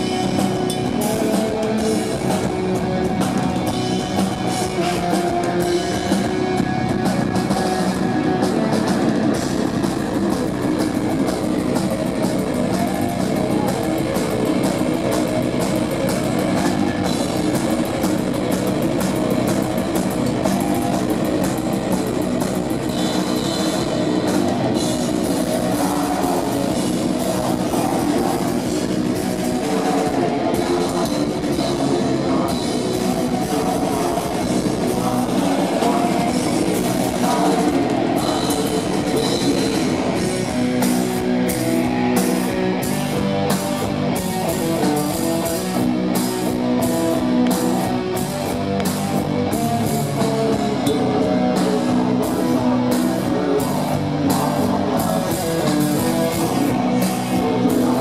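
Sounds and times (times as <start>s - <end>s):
distorted electric guitars: 0.0s - 58.0s
drum kit: 0.0s - 58.0s.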